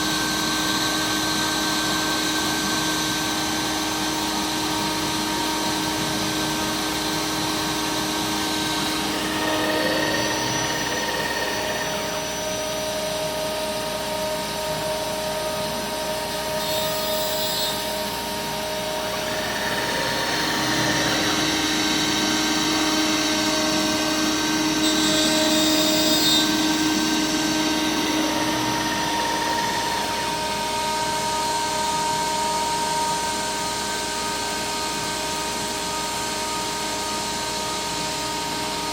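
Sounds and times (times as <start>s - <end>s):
stepper motors humming: 0.0s - 37.9s
router spindle whine: 0.0s - 38.9s.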